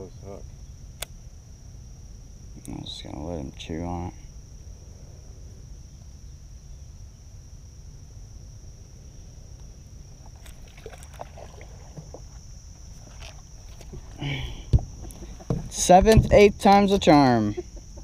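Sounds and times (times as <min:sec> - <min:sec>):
insects droning: 0:00.0 - 0:18.0
low rumble of wind: 0:00.0 - 0:18.0.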